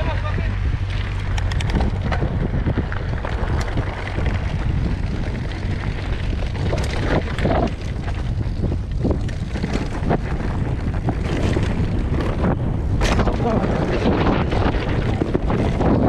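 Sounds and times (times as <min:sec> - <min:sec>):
bike clicks and rattles: 0:00.0 - 0:16.0
wind buffeting the microphone: 0:00.0 - 0:16.0.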